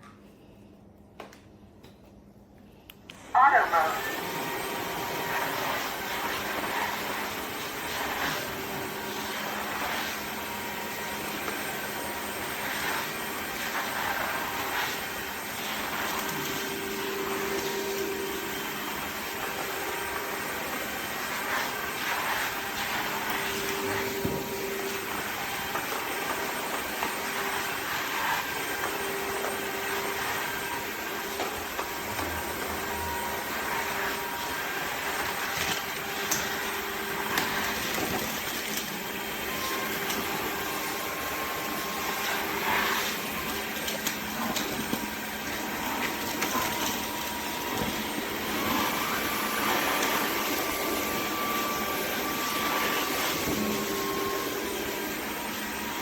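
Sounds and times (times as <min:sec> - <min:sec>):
vacuum cleaner running: 0:02.7 - 0:56.0.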